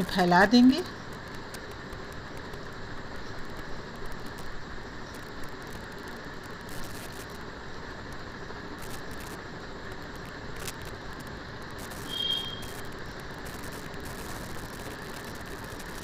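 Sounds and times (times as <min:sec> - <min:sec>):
liver sizzling in hot oil: 0:01.0 - 0:16.0.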